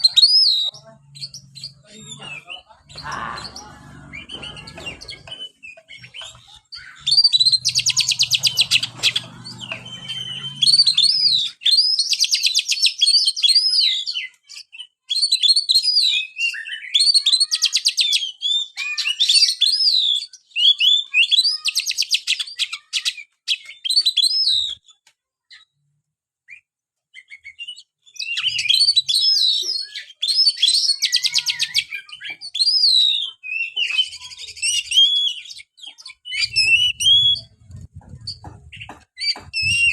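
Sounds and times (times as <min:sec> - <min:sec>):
bird singing whistles and trills: 0:00.0 - 0:25.7, 0:26.5 - 0:39.9.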